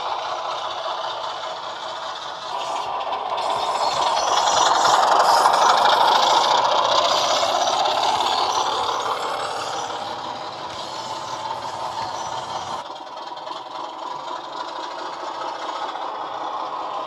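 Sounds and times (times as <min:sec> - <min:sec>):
model train diesel engine sound: 0:00.0 - 0:17.0
model wheels clattering on track: 0:00.0 - 0:17.0.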